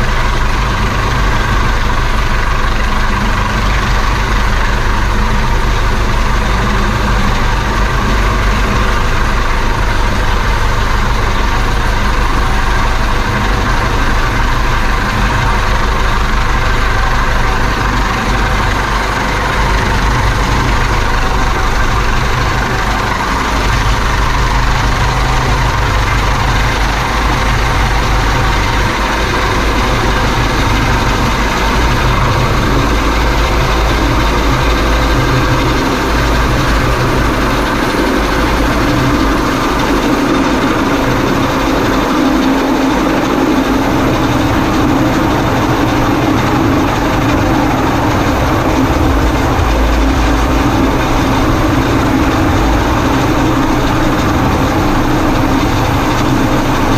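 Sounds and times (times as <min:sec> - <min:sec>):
helicopter running: 0:00.0 - 0:56.9.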